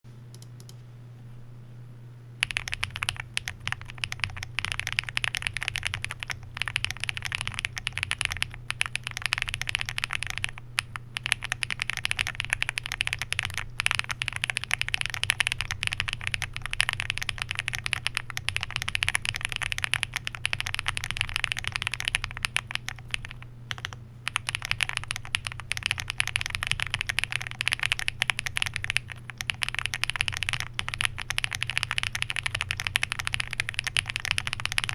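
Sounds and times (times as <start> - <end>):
typing on mechanical keyboard: 2.4 - 34.9.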